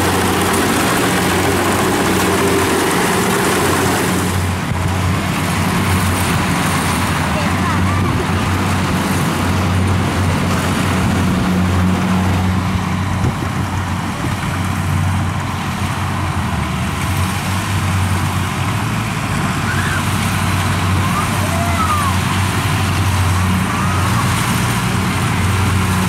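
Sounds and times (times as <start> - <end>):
combine harvester engine droning: 0.0 - 26.0.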